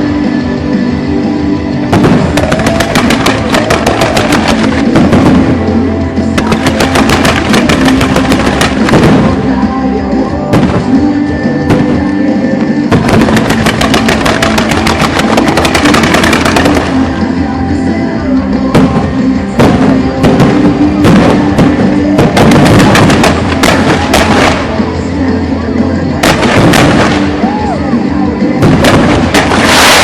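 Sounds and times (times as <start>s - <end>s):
loud background music: 0.0s - 30.0s
fireworks bangs: 1.9s - 9.7s, 10.4s - 17.6s, 18.6s - 25.1s, 26.2s - 30.0s.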